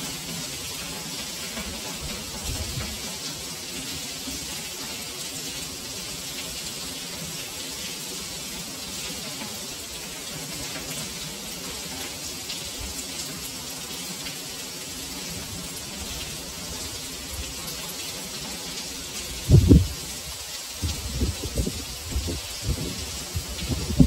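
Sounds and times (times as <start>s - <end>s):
heavy rain on stone paving: 0.0s - 24.0s.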